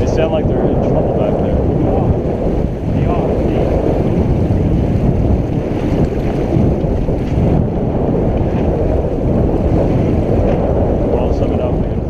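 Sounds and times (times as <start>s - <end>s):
water washing past hull: 0.0s - 12.0s
wind rumble on microphone: 0.0s - 12.0s.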